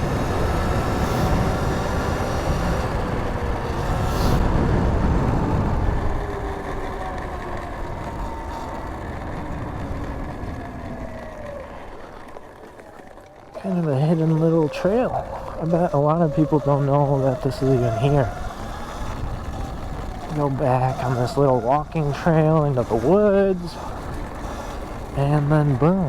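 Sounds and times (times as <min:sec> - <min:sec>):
electric dirt bike riding noise: 0:00.0 - 0:26.0
electric motor whine: 0:00.0 - 0:26.0.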